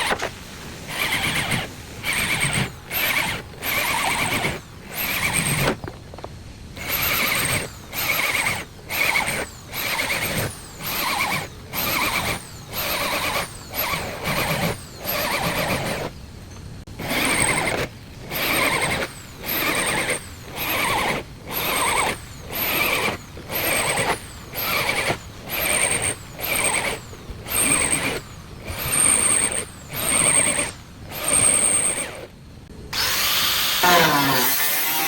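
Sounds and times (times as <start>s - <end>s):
power tool whining bursts: 0.0s - 5.8s, 6.8s - 16.2s, 17.0s - 35.0s
steady continuous tool noise: 0.0s - 35.0s.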